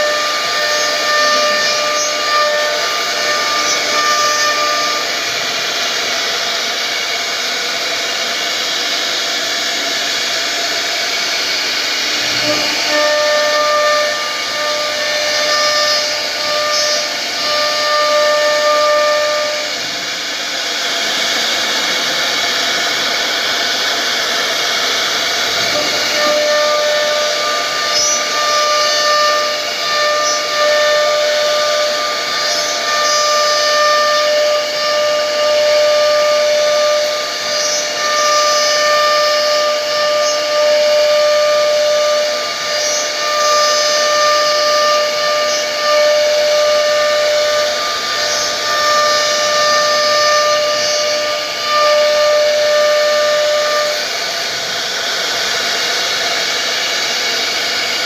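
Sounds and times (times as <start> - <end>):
electric power tool whining: 0.0 - 58.0.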